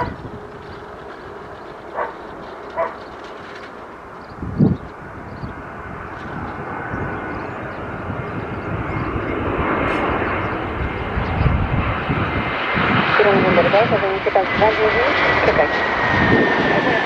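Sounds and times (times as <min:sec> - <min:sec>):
airliner engines passing: 0:00.0 - 0:17.0.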